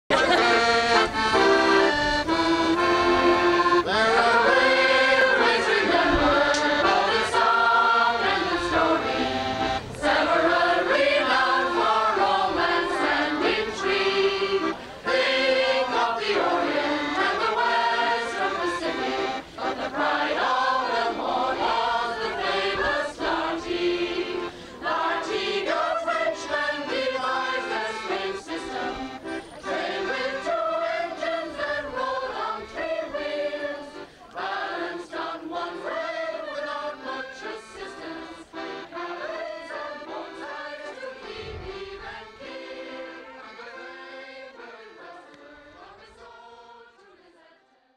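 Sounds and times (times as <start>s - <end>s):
flowing background music: 0.4s - 47.6s.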